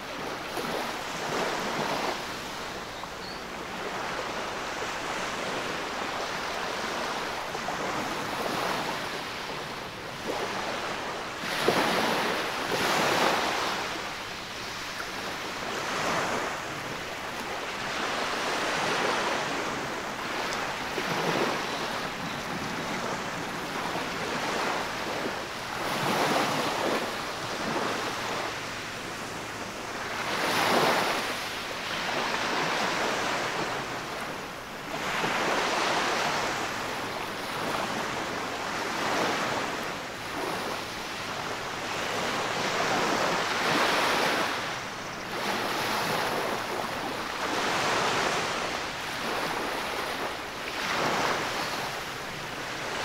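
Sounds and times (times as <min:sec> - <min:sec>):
small waves breaking on sand: 0:00.0 - 0:53.0.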